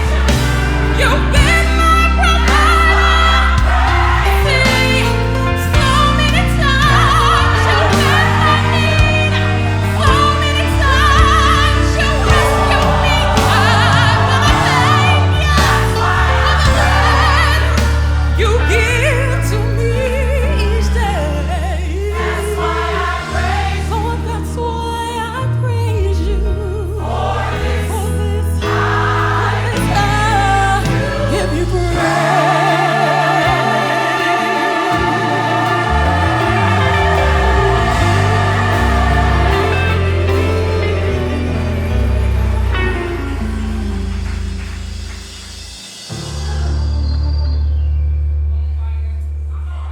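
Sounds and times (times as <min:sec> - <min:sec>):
gospel choir singing: 0:00.0 - 0:47.9
bass line: 0:00.0 - 0:49.9.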